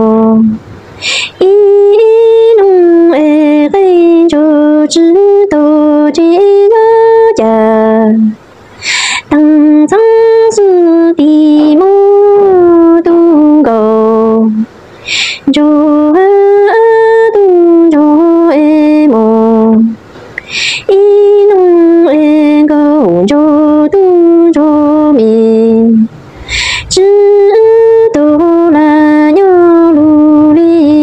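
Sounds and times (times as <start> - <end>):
woman singing long held notes: 0.0 - 31.0.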